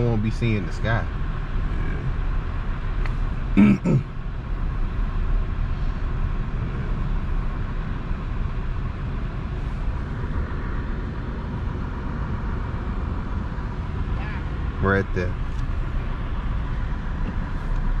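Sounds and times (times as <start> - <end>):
car rumble inside cabin: 0.0 - 18.0.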